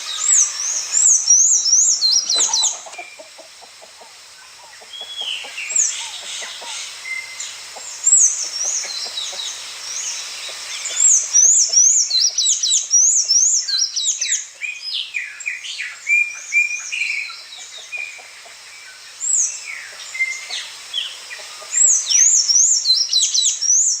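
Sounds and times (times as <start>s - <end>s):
songbirds chirping and singing: 0.0s - 24.0s.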